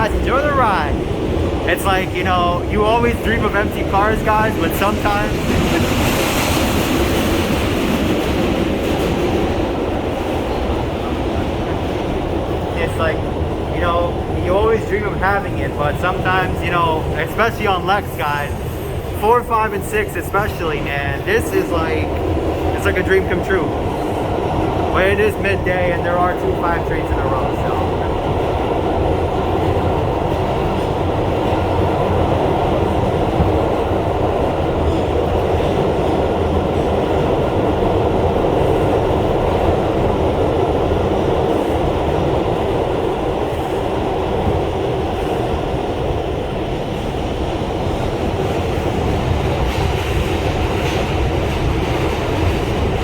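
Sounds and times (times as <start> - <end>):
subway car running noise: 0.0 - 53.0.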